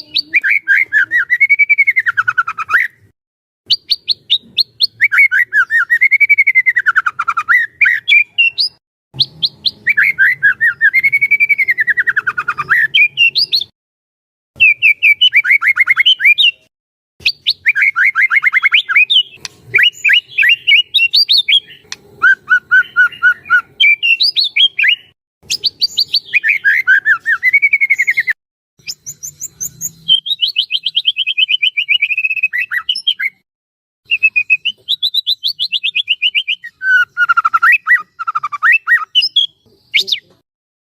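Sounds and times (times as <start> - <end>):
bird singing whistled phrases: 0.0 - 3.0, 3.7 - 13.7, 14.6 - 33.4, 34.1 - 40.4.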